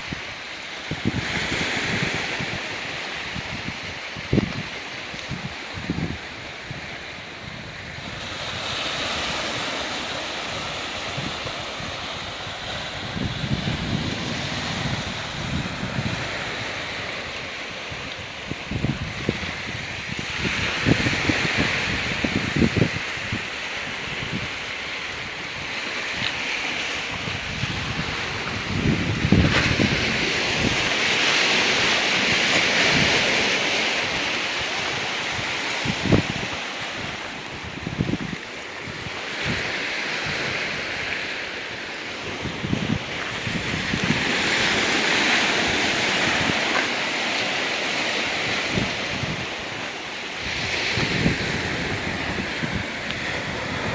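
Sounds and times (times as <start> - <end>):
surf on rocky beach: 0.0 - 53.9
wind buffeting microphone: 0.0 - 53.9.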